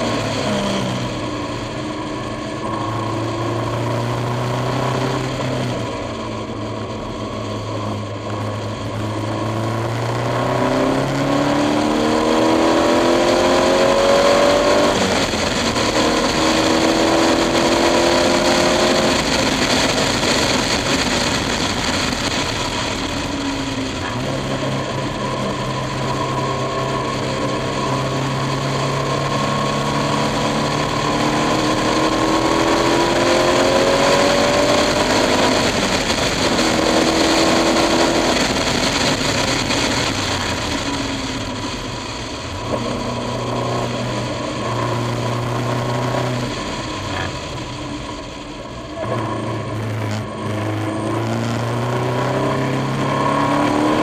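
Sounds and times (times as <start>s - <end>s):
race car engine revving: 0.0s - 54.0s
wind noise: 0.0s - 54.0s.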